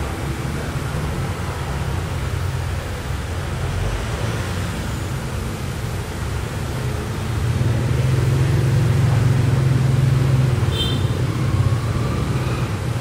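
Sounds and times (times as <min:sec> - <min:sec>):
motorbike and van passing: 0:00.0 - 0:13.0.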